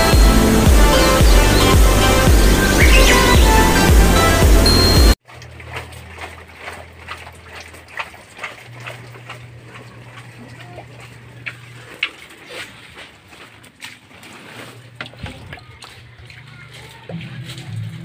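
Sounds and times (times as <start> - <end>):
water splashing onto plants: 0.0 - 18.0.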